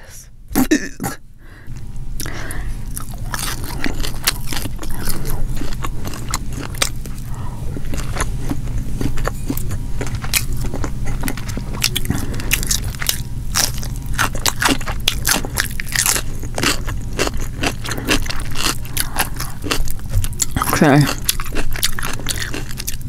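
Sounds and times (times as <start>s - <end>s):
steady low hum: 0.0s - 23.0s
chewing with wet crunches: 2.2s - 23.0s.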